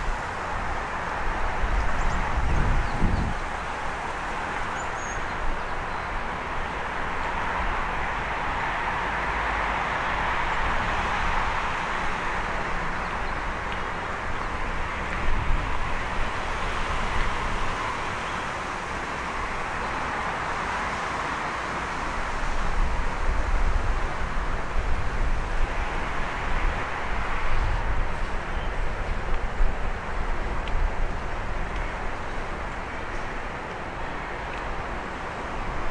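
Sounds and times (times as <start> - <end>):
city traffic hum: 0.0 - 35.9.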